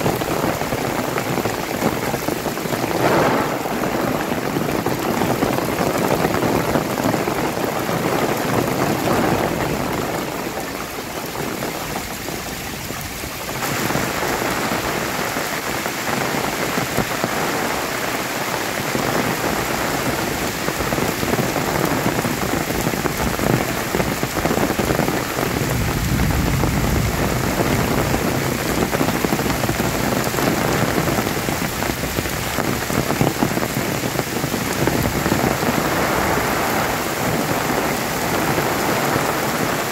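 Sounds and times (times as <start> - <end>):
heavy rain on trees and road: 0.0 - 39.9.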